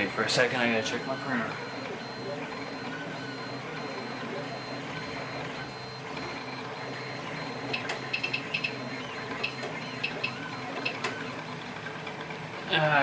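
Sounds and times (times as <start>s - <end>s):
printer motors whirring: 0.0s - 13.0s.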